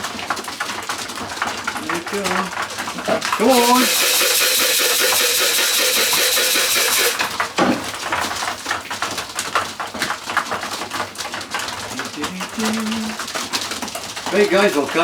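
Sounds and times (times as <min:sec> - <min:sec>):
rapid tapping and clicking: 0:00.0 - 0:15.0.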